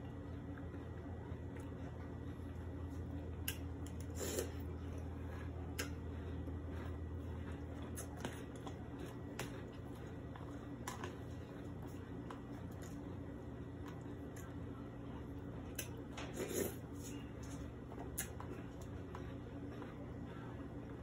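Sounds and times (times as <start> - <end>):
low steady hum: 0.0 - 21.0
soft chewing: 0.0 - 21.0.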